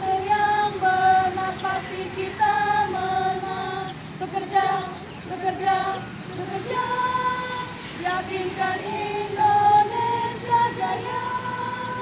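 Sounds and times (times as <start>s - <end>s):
women's choir singing: 0.0s - 12.0s.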